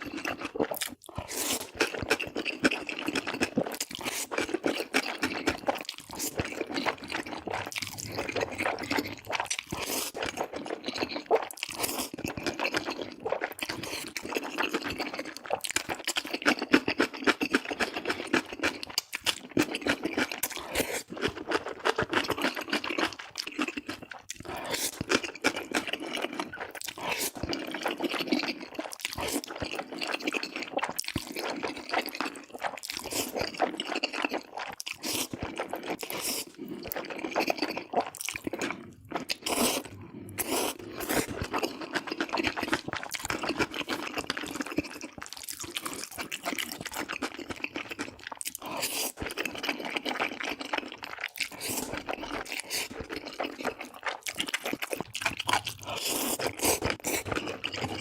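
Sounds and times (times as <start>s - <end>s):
wet chewing and slurping: 0.0s - 58.0s.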